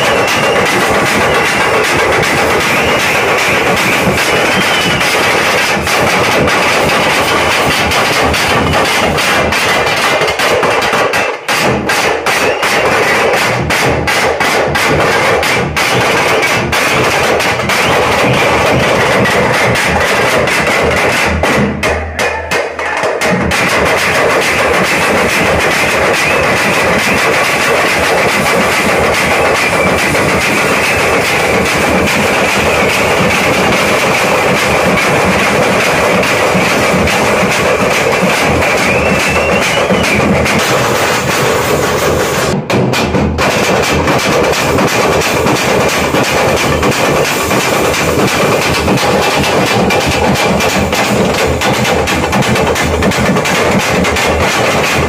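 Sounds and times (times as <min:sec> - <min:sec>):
drum troupe beating drums: 0:00.0 - 0:55.0.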